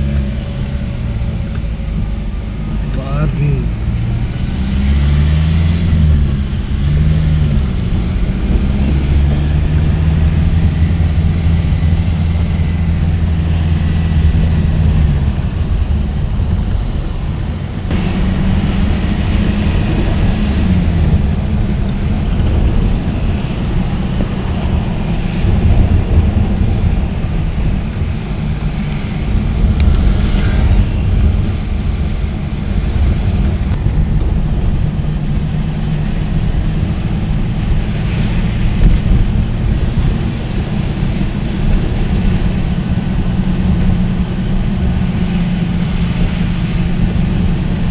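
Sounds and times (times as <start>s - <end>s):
road noise: 0.0s - 47.9s
vehicle engine humming: 0.0s - 47.9s.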